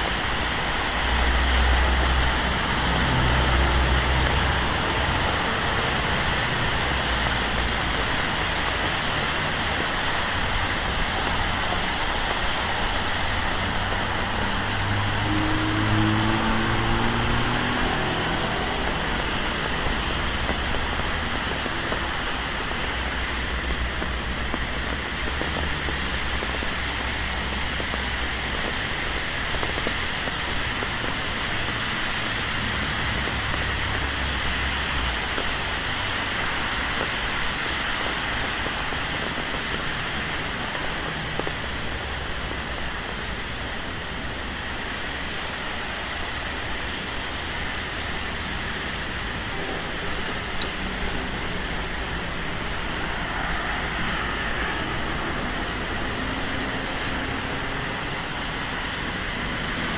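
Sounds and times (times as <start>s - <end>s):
low traffic rumble: 0.0s - 59.9s
rain on street: 0.0s - 59.9s.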